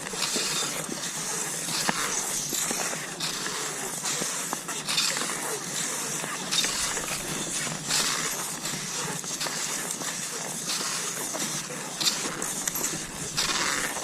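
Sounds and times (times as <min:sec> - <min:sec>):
skis swishing over snow: 0:00.0 - 0:14.0.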